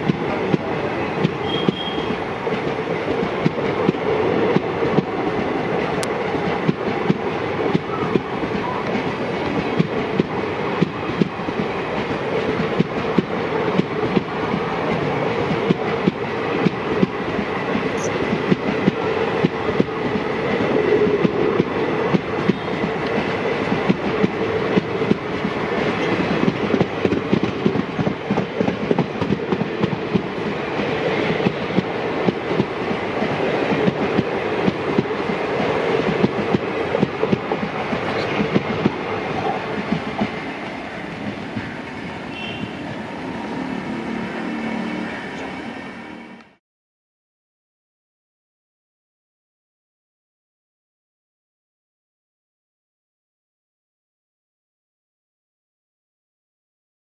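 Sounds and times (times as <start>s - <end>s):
train rumbling past: 0.0s - 46.6s.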